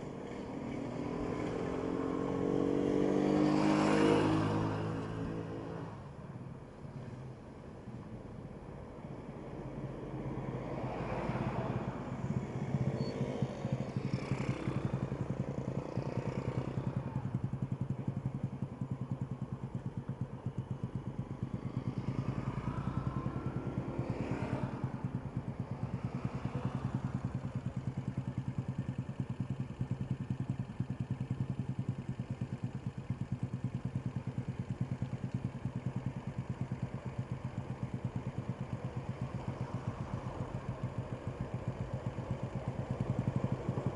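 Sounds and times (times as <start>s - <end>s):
vehicles driving past: 0.0s - 32.1s, 32.7s - 43.9s
vehicle engine idling: 0.0s - 43.9s.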